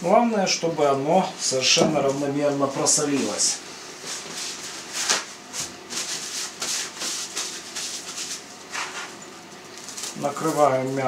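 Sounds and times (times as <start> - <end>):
paper towel rustling: 1.7 - 11.0.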